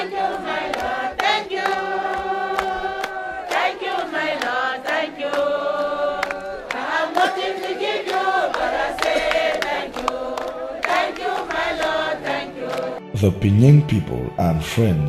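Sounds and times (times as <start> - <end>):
hands clapping on the beat: 0.0 - 13.0
crowd singing in chorus: 0.0 - 13.2.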